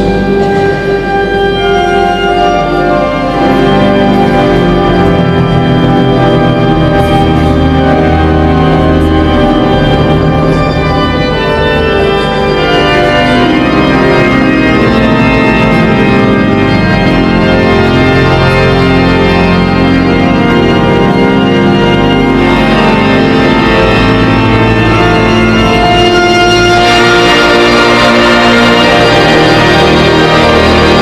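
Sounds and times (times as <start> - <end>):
organ playing sustained chords: 0.0 - 31.0.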